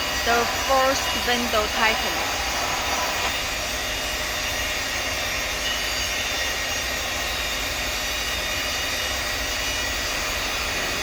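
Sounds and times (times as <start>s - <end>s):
faint high whine: 0.0s - 11.0s
machinery whirring and hissing: 0.0s - 11.0s.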